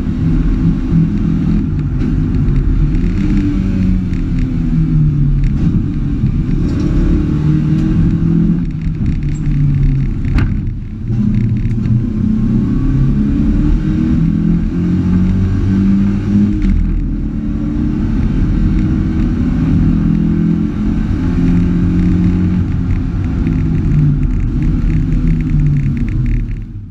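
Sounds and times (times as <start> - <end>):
car engine running hard: 0.0 - 26.9.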